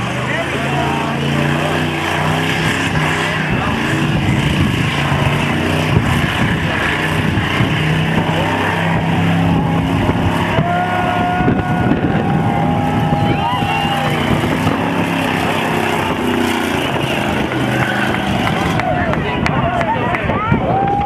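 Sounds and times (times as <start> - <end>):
car engine at high revs: 0.0 - 21.0.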